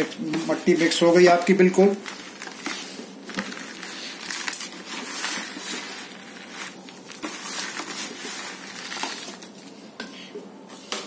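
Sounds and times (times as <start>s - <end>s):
hand stirring soil in bucket: 0.0s - 9.5s.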